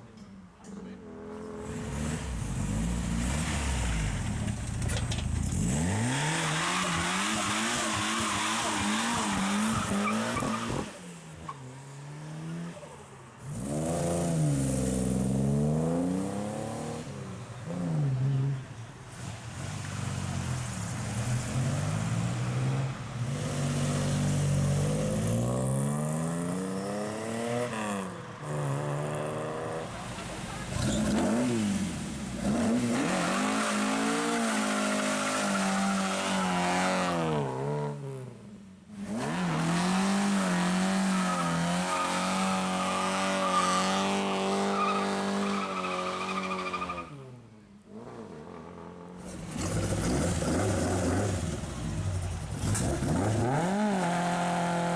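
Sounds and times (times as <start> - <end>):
car engines revving and accelerating: 0.7 - 54.9.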